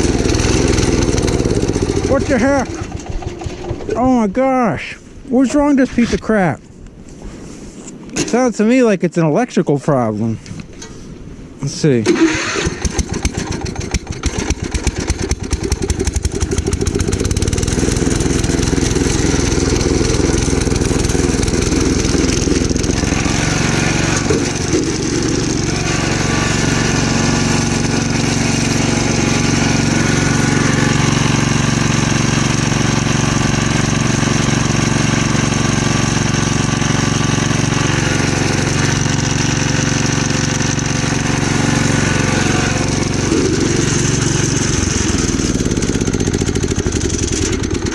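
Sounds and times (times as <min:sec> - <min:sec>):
tractor engine running: 0:00.0 - 0:04.9, 0:12.1 - 0:47.9.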